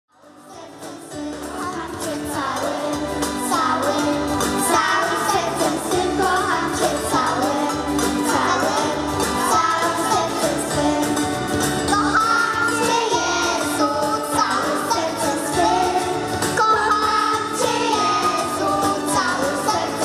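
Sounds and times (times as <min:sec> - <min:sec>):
children's choir singing: 0:00.2 - 0:20.0
instrumental accompaniment with bass: 0:00.2 - 0:20.0.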